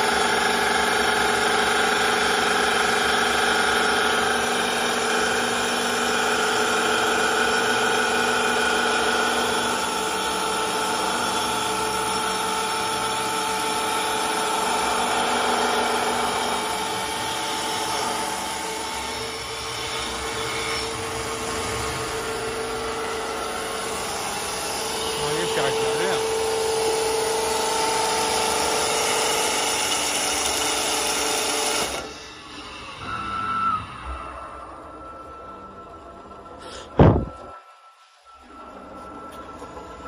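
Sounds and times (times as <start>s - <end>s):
lathe motor whine: 0.0s - 40.0s.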